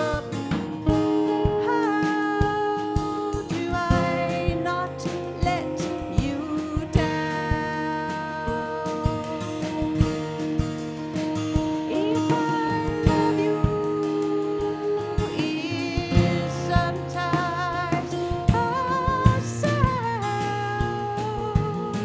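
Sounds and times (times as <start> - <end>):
acoustic guitars: 0.0 - 22.0
drum kit beat: 0.0 - 22.0.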